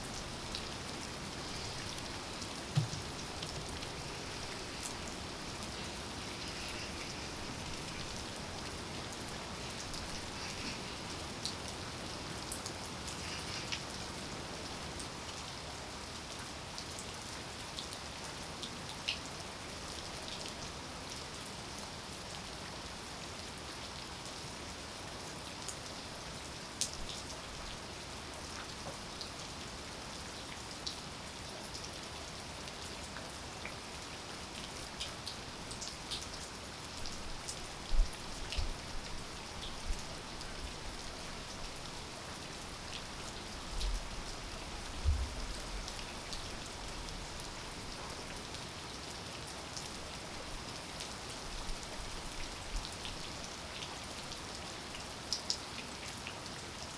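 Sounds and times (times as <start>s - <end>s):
rain drops ticking on hard surfaces: 0.0s - 56.9s.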